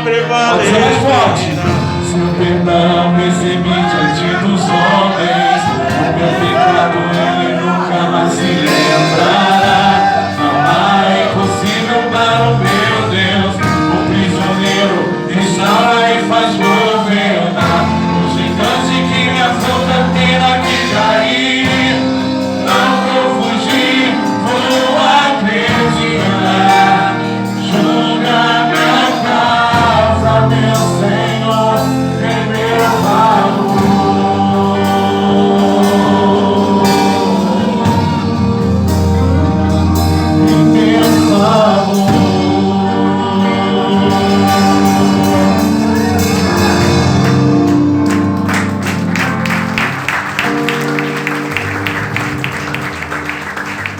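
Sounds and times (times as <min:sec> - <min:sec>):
gospel band and choir: 0:00.0 - 0:53.9.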